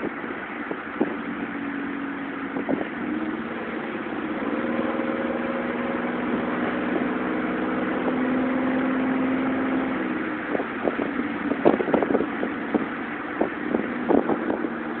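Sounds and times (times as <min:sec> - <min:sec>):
truck exhaust popping: 0:02.4 - 0:15.0.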